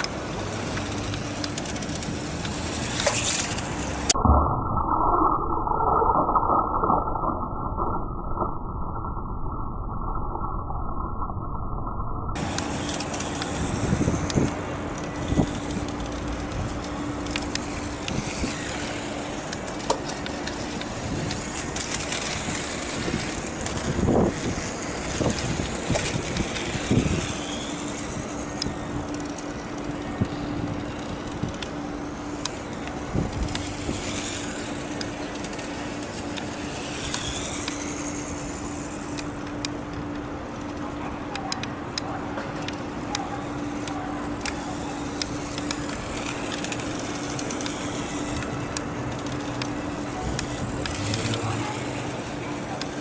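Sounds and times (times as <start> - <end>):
rolling and handling noise: 0.0 - 4.2, 12.4 - 53.0
toy electric motor hum: 0.0 - 4.2, 12.4 - 42.0, 42.6 - 53.0.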